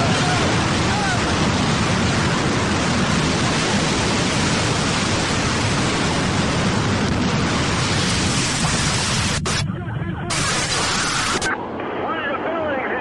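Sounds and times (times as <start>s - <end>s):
loud steady rushing noise: 0.0s - 13.0s.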